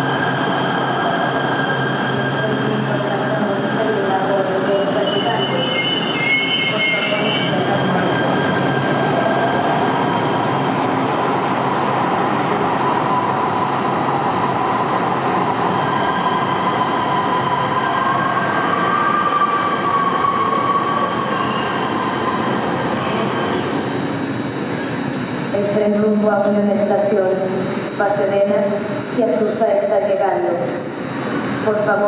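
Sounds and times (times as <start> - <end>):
light rail train rumbling: 0.0 - 32.0.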